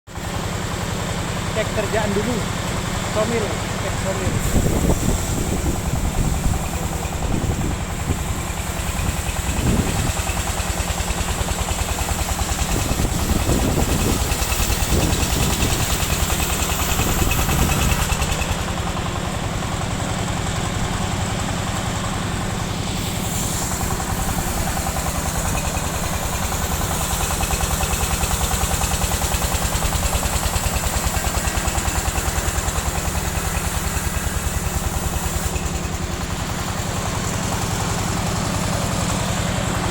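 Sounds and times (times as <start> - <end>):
sawmill machinery running: 0.1 - 39.9.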